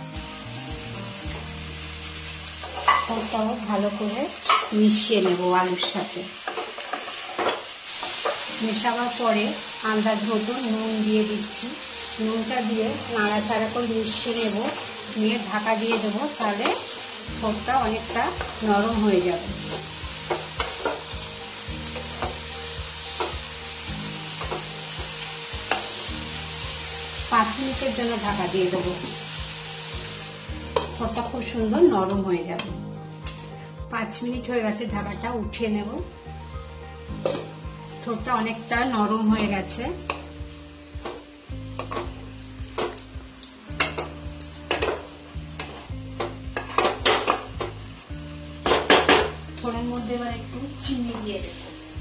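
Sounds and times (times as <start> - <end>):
vegetables sizzling in hot oil: 0.0 - 52.0.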